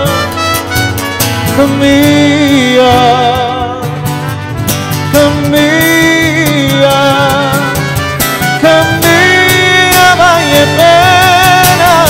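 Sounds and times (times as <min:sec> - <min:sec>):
trumpet playing: 0:00.0 - 0:02.9, 0:03.9 - 0:12.0
acoustic guitar: 0:00.0 - 0:12.0
man singing into a microphone: 0:00.0 - 0:12.0.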